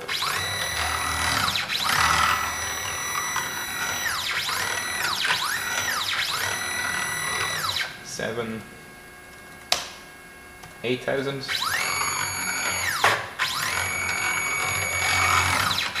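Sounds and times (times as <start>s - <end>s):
stepper motor whine: 0.0s - 9.3s, 11.4s - 16.0s.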